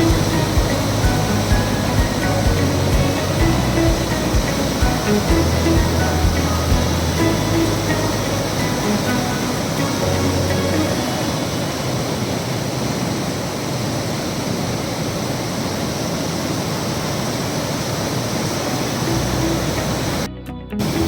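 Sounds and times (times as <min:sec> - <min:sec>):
water cascading: 0:00.0 - 0:21.0.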